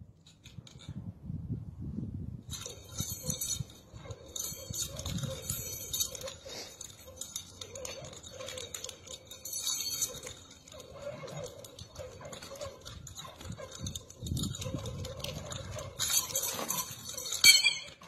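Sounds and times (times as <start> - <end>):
nunchaku clicking and rattling: 2.4 - 18.0.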